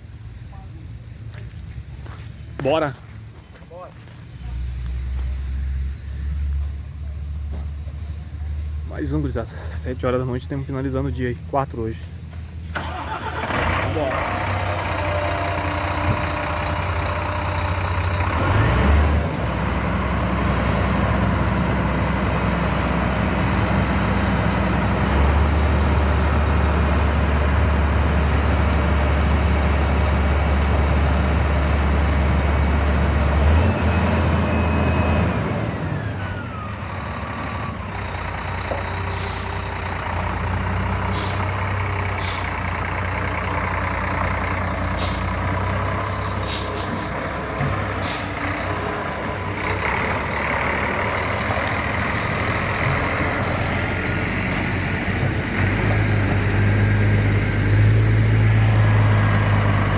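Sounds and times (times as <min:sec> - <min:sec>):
truck diesel engine pulling away: 0:04.2 - 0:59.9.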